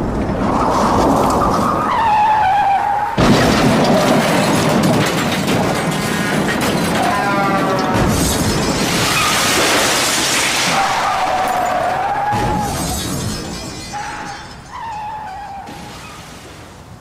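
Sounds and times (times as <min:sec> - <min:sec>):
crash and shattering debris: 0:03.0 - 0:16.7.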